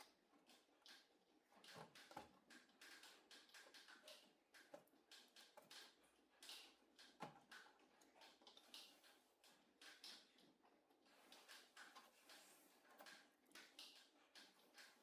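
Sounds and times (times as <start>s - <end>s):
faint irregular clicks: 0.0s - 15.0s.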